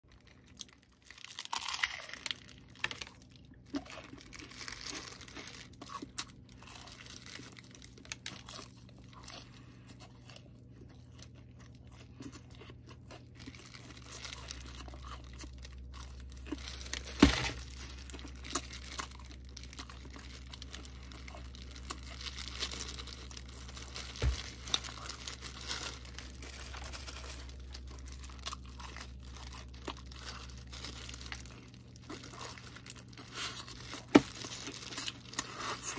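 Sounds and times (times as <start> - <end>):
plastic glove crinkling: 0.1 - 9.9, 13.2 - 35.9
crunchy chewing: 0.2 - 35.9.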